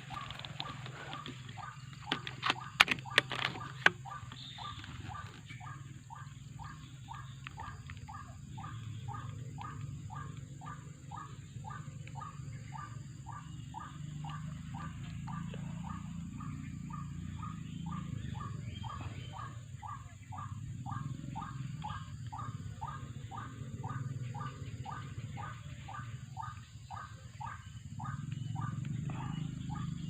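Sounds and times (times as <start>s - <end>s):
waterhen calls: 0.0s - 30.0s.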